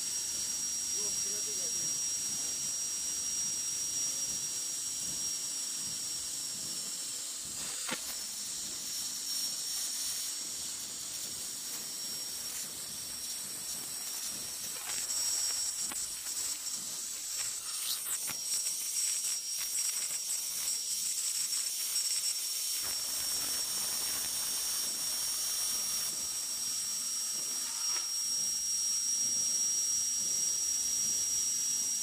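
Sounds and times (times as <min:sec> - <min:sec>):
plasma cutter hissing: 0:00.0 - 0:29.9.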